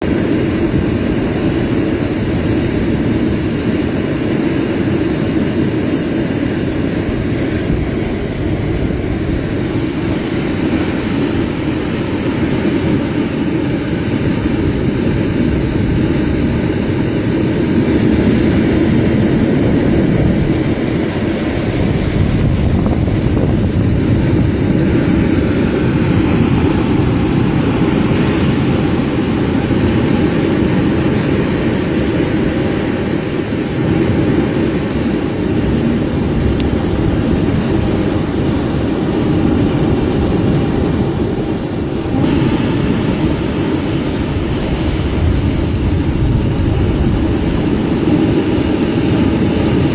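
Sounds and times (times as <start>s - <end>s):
boat engine droning: 0.0s - 49.9s
water noise: 0.0s - 49.9s
wind noise: 0.0s - 49.9s.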